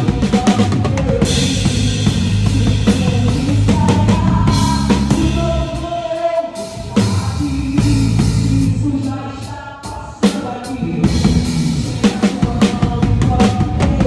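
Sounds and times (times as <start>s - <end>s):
live band playing gospel music: 0.0s - 14.0s.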